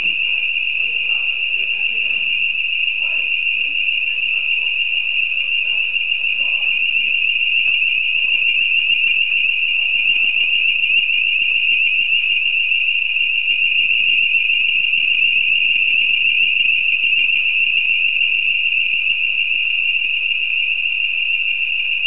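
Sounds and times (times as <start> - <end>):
warbling fire alarm tone: 0.0 - 22.0.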